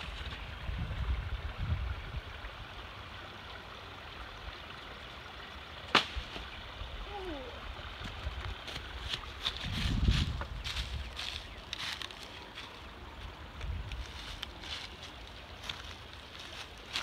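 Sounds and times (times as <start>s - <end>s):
stream water running: 0.0s - 17.0s.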